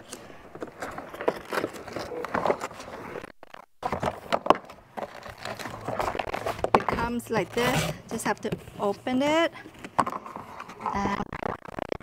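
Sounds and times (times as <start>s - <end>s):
plastic kayak parts rustling and clicking: 0.0s - 8.9s, 9.6s - 12.0s.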